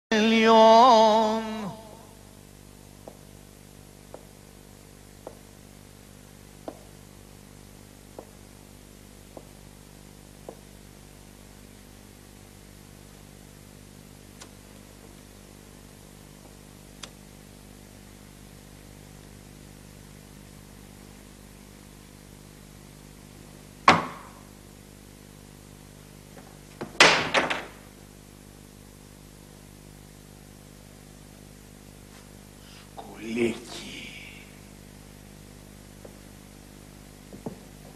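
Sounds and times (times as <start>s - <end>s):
faint hum and hiss: 0.0s - 37.9s.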